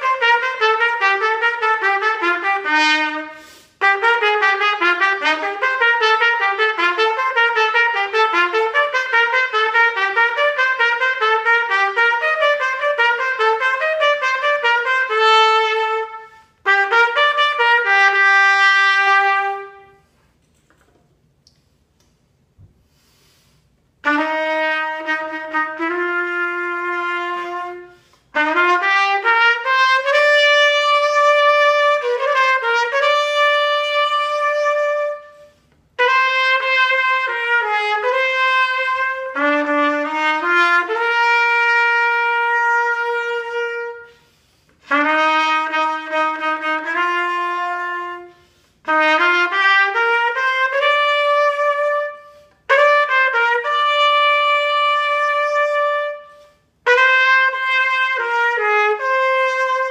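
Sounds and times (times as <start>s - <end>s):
solo trumpet melody: 0.0s - 20.2s, 23.9s - 59.9s.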